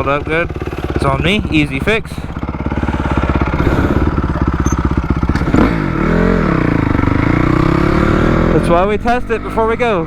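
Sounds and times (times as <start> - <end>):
dirt bike engine chugging: 0.0 - 10.0.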